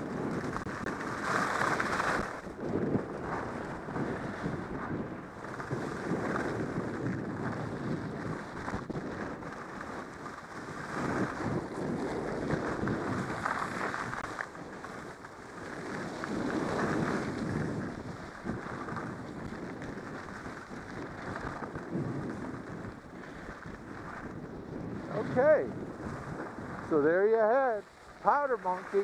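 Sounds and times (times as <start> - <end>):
skis scraping over snow: 0.0 - 29.0
wind rushing over microphone: 0.0 - 29.0.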